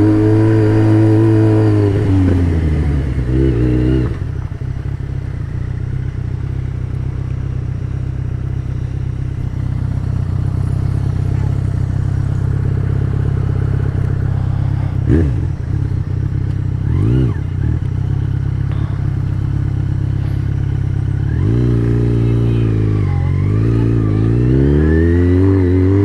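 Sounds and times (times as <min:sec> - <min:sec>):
motorcycle engine riding: 0:00.0 - 0:26.0.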